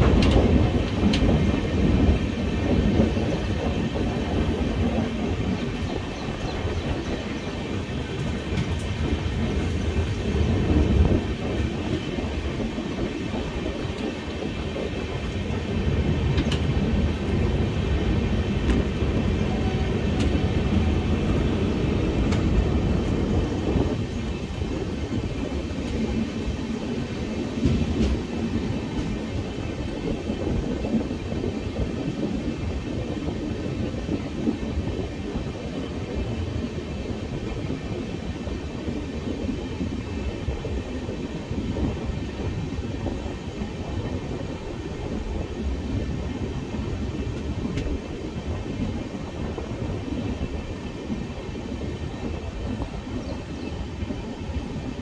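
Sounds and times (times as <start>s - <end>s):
train rumble from on board: 0.0s - 55.0s
wheel-and-rail noise: 0.0s - 55.0s.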